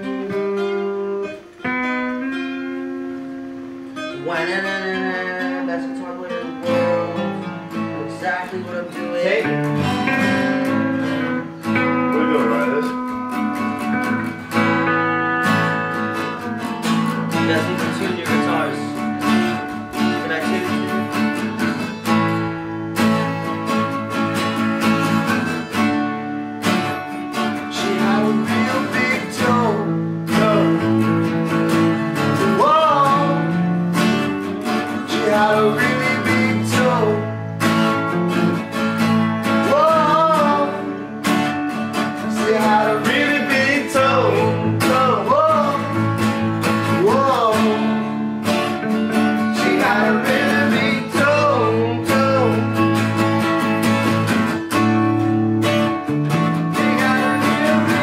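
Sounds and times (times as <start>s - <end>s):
guitar melody line: 0.0s - 58.0s
strummed guitar chords: 0.0s - 58.0s.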